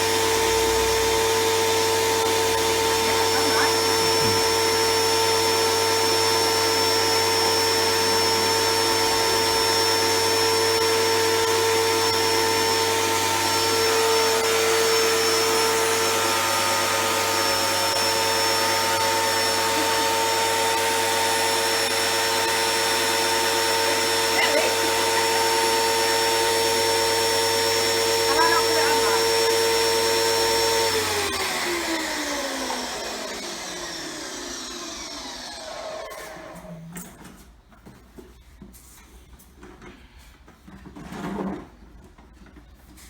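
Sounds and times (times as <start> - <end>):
pressure washer motor drone: 0.0 - 36.9.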